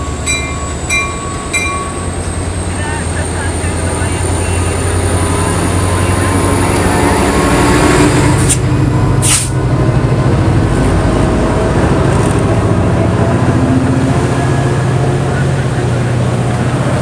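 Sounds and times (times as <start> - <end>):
diesel locomotive humming: 0.0 - 17.0
train cars rumbling on rails: 0.0 - 17.0.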